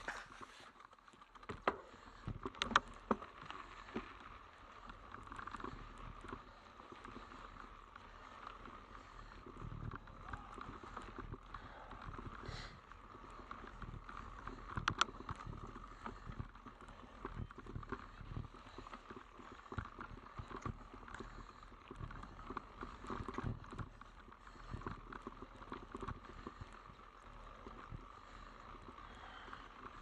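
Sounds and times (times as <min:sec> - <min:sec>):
bike rattling over rough trail: 0:00.0 - 0:30.0.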